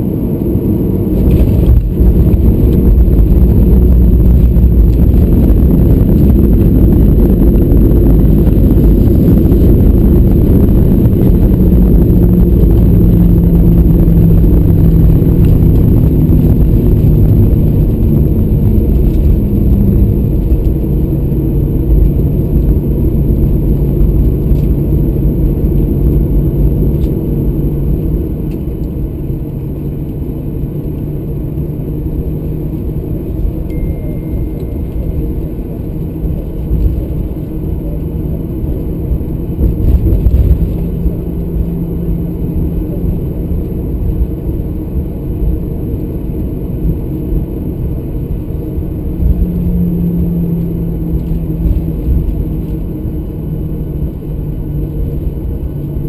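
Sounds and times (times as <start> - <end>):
jet engines and wheels rumbling: 0.0 - 56.0.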